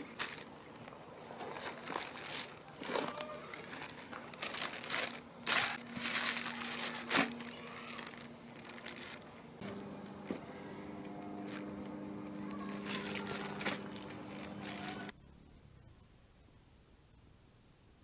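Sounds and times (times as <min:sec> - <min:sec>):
crinkling and rustling: 0:00.0 - 0:15.1.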